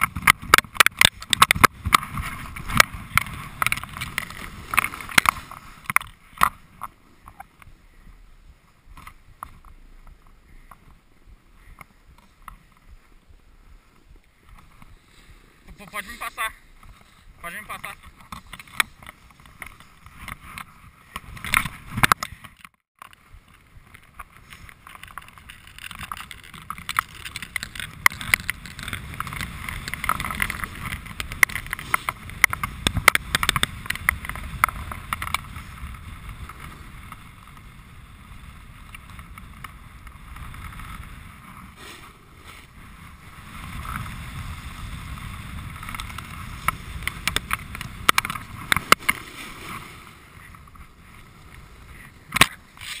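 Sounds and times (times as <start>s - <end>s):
snowboard scraping over snow: 0.0s - 22.1s, 23.2s - 53.0s.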